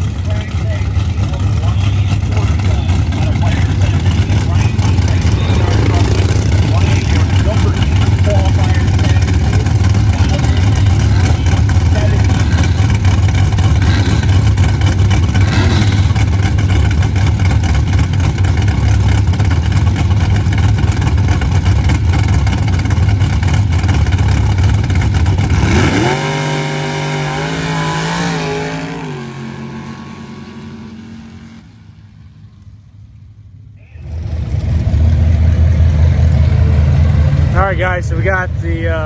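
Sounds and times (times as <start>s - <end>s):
drag race engine revving: 0.0s - 32.4s, 33.9s - 39.0s.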